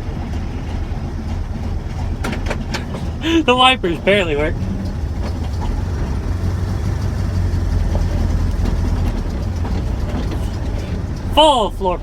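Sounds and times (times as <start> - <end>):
pickup engine and exhaust rumble: 0.0 - 12.0
road noise: 0.0 - 12.0.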